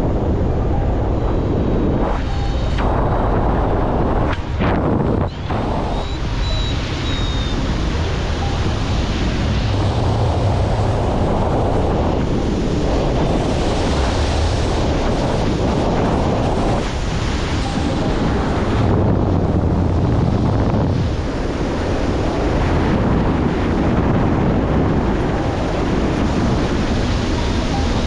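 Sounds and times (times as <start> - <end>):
steady rushing noise: 0.0 - 28.0
wind buffeting microphone: 0.0 - 28.0.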